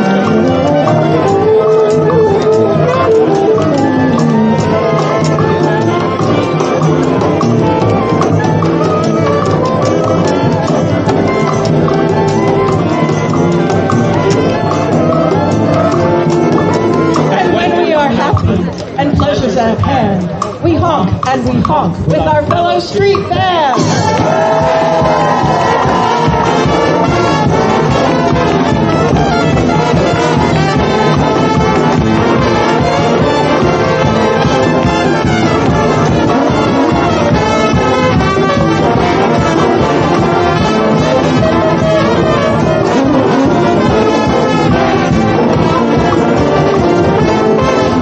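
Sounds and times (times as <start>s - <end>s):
brass band horns: 0.0s - 19.6s, 23.7s - 48.0s
steady drum beat: 0.0s - 48.0s.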